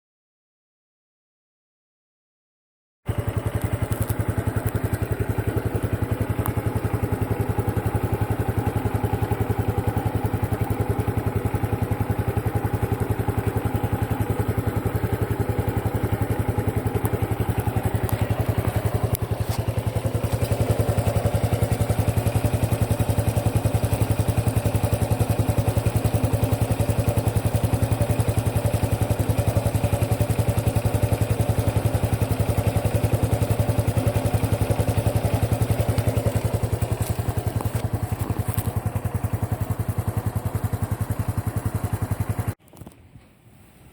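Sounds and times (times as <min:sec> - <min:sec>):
motorcycle engine running: 0:03.1 - 0:43.3
abnormal mechanical engine noise: 0:03.1 - 0:43.9.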